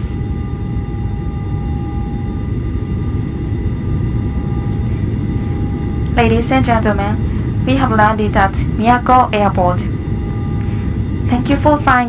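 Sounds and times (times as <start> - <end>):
aircraft cabin low rumble: 0.0 - 12.0
thin steady tones: 0.0 - 12.0.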